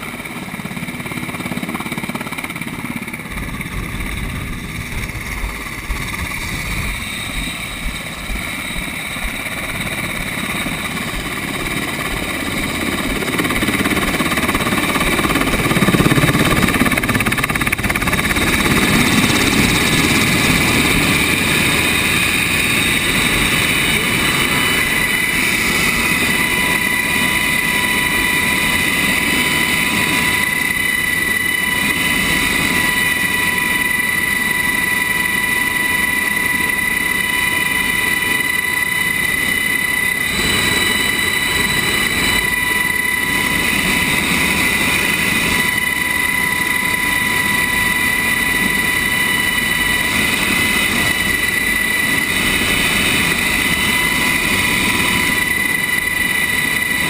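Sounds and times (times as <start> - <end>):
helicopter rotor rushing noise: 0.0 - 57.0
helicopter turbine whine: 0.0 - 57.0.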